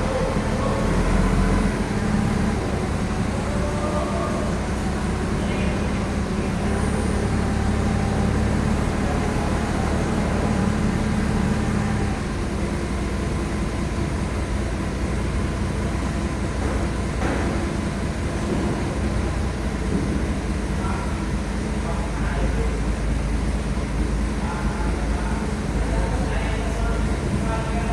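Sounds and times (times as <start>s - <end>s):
heavy vehicle engine drone: 0.0s - 27.9s
road noise: 0.0s - 27.9s.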